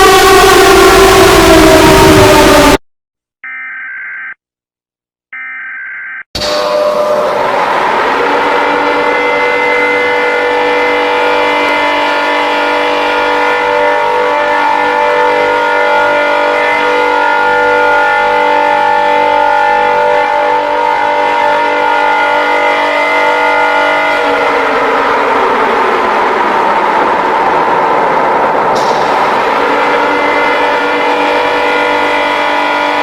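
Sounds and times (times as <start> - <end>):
electronic emergency alert alarm: 3.4 - 4.4, 5.3 - 33.0.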